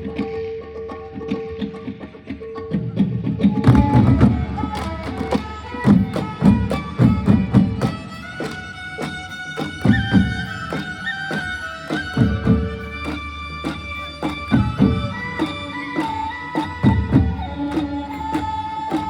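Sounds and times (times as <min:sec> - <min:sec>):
sharp drum strokes: 0:03.6 - 0:19.0.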